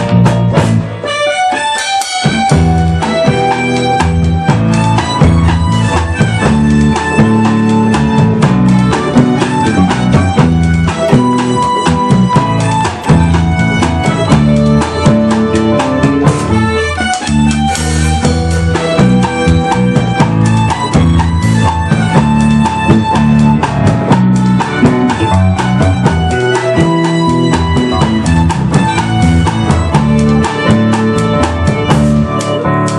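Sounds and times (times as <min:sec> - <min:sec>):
band playing: 0:00.0 - 0:32.9
drum kit beat: 0:00.0 - 0:32.9.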